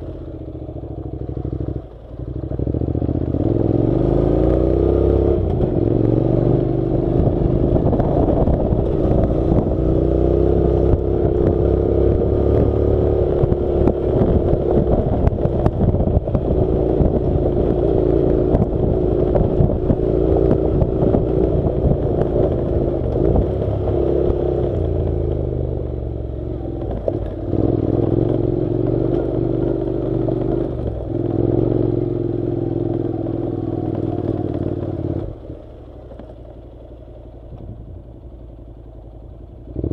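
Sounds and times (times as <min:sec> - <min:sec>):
gravel and suspension rattling: 0:00.0 - 0:39.9
motorcycle engine running: 0:00.0 - 0:39.9.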